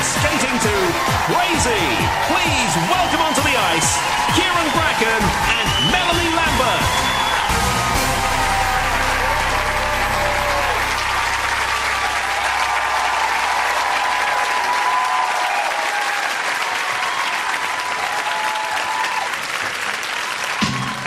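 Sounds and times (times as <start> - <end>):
studio audience applauding: 0.0 - 21.0.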